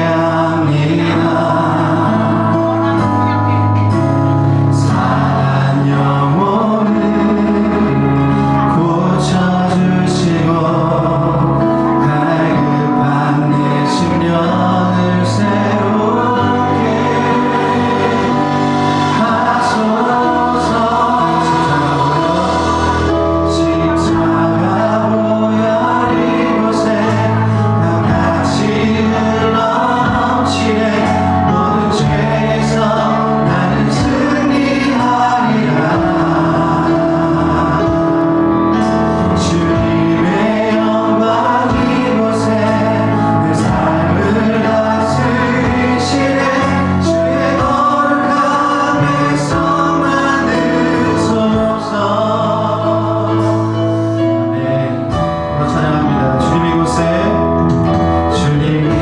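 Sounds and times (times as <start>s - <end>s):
worship band and singers: 0.0s - 59.0s.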